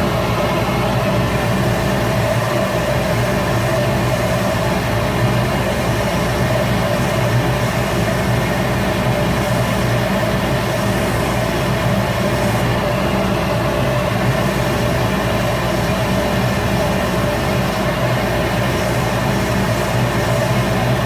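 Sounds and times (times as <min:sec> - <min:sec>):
wood lathe motor hum: 0:01.2 - 0:21.0.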